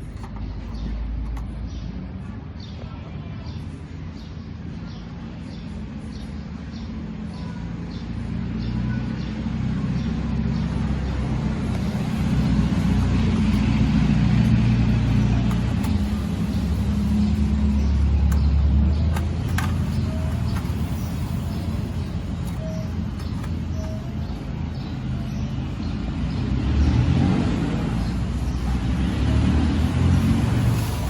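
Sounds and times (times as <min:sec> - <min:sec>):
low mechanical rumble: 0:00.0 - 0:31.0.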